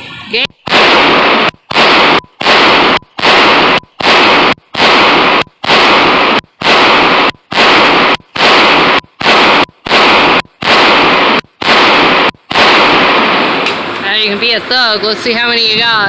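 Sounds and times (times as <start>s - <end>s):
pistol gunshots with echo: 0.4s - 14.0s.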